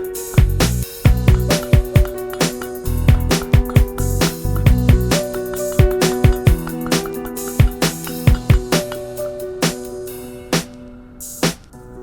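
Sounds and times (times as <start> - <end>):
instrumental funk music: 0.0 - 11.7.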